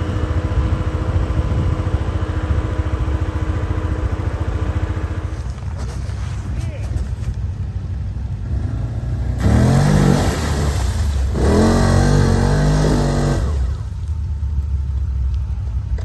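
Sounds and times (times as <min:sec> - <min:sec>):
atv engine revving: 0:00.0 - 0:06.0, 0:06.9 - 0:16.0.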